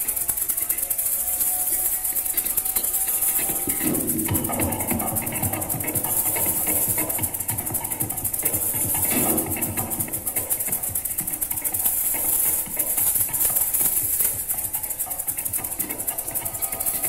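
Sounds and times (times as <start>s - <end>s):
maracas shaken: 0.0s - 17.0s.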